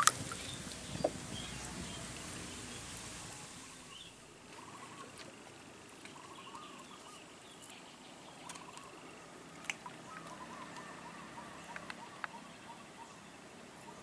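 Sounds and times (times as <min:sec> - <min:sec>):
birds warbling: 0:00.0 - 0:05.3, 0:06.0 - 0:14.0.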